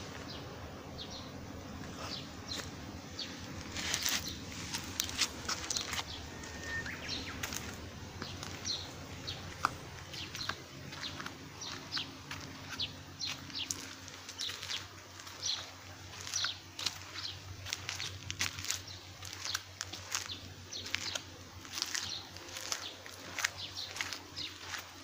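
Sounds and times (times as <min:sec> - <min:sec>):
low steady hum: 0:00.0 - 0:25.0
small birds chirping: 0:00.0 - 0:25.0.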